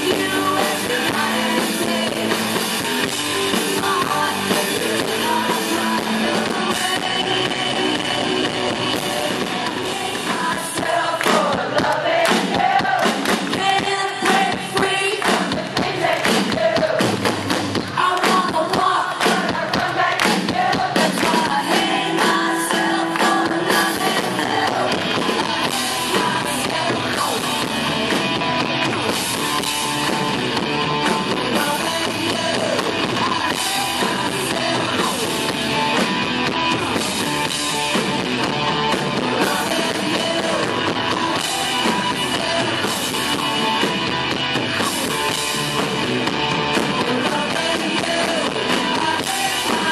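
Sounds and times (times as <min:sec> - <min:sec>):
live rock band playing loud: 0:00.0 - 0:49.9.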